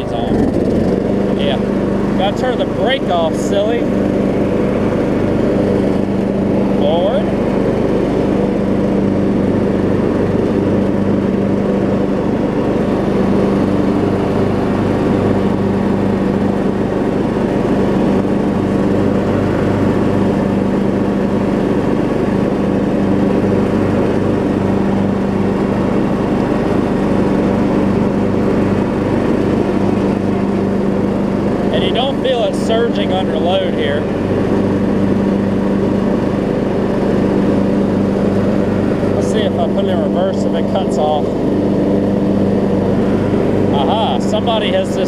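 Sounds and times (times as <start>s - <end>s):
riding mower engine running: 0.0s - 45.0s.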